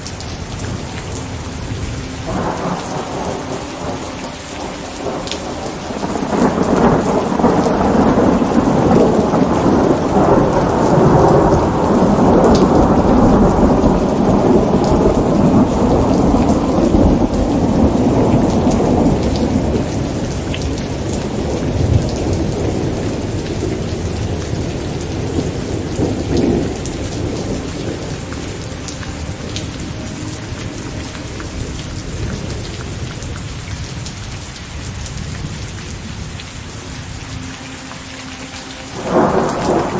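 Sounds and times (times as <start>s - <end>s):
steady rain: 0.0s - 39.9s
thunder rolling: 2.2s - 33.3s, 39.0s - 39.9s.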